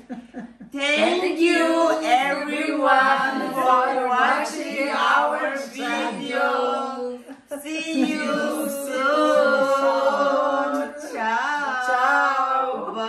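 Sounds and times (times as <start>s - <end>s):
voices singing unaccompanied: 0.8s - 13.0s.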